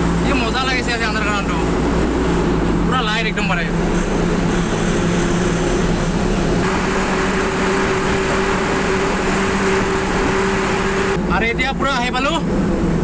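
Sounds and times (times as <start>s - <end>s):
truck engine driving in tunnel: 0.0s - 13.0s.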